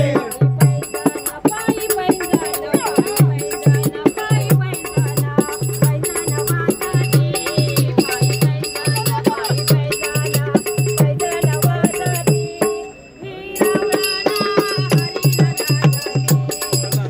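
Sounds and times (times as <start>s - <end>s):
drum beating: 0.0s - 12.9s, 13.6s - 17.0s
hand cymbals ringing: 0.0s - 17.0s
woman singing devotional song: 0.0s - 17.0s.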